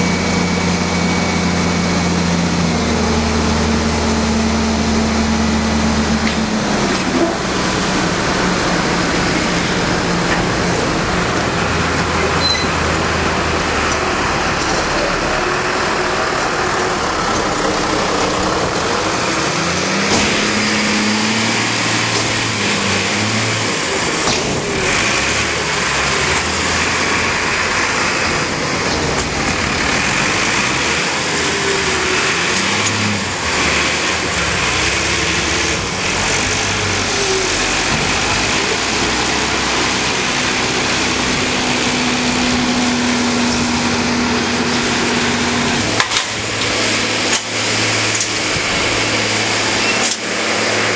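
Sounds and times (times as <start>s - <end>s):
loud rushing noise: 0.0s - 50.9s
tractor diesel engines under load: 0.0s - 50.9s.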